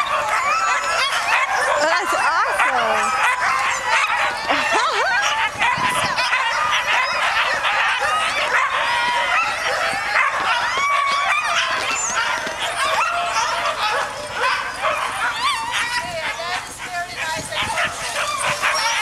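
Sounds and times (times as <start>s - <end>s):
sled dogs barking and yipping: 0.0s - 19.0s.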